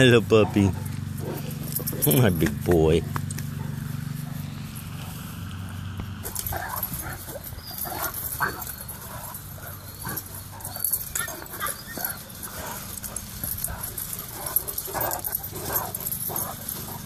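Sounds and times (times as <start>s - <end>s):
dogs yipping whining and barking: 0.0s - 5.2s, 6.2s - 17.0s.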